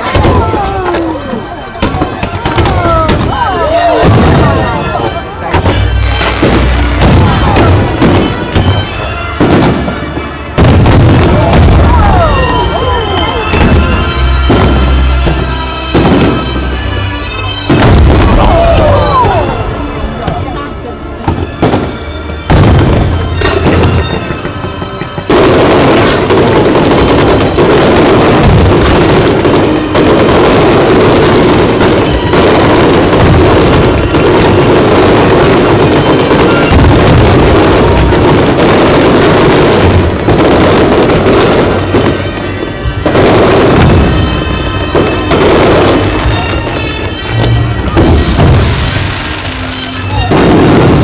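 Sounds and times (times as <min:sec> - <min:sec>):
fireworks bursting: 0:00.0 - 0:51.0
music playing: 0:00.0 - 0:51.0.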